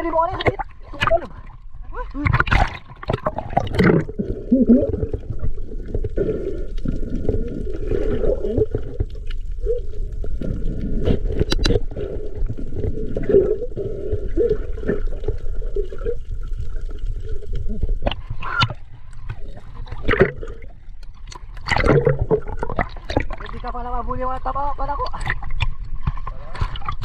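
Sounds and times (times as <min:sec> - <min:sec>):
water gurgling and sloshing: 0:00.0 - 0:27.0.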